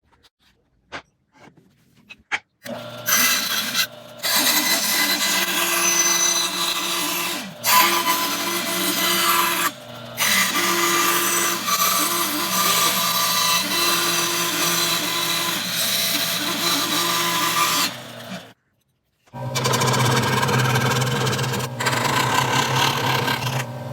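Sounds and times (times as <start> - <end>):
power tool cutting wood: 2.7 - 18.6, 19.4 - 23.9.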